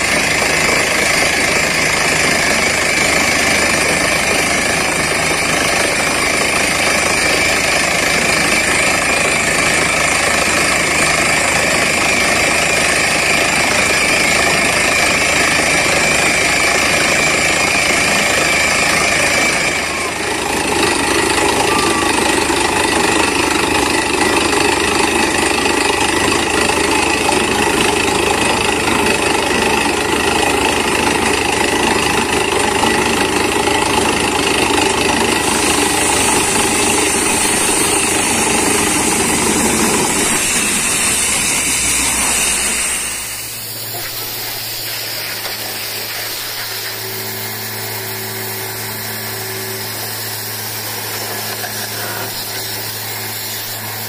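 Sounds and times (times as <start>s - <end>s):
drilling rig drilling: 0.0s - 54.0s.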